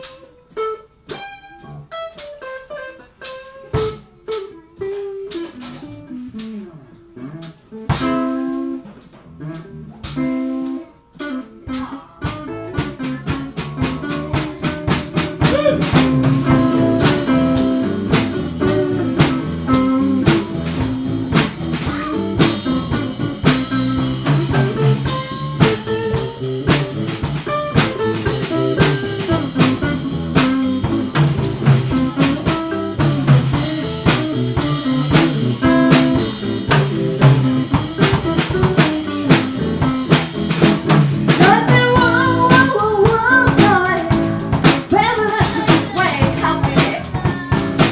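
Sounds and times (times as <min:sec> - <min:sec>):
live band playing: 0:00.0 - 0:06.6, 0:07.3 - 0:47.9.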